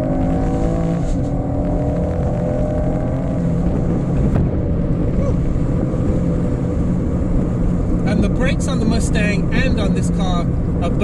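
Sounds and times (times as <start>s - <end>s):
car engine running: 0.0s - 11.0s
low rumble: 0.0s - 11.0s.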